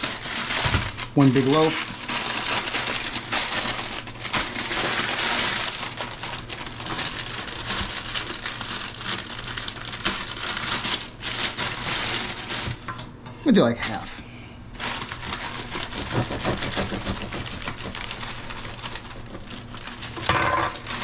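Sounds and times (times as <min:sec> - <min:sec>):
paper bag crinkling: 0:00.0 - 0:12.9, 0:14.7 - 0:21.0.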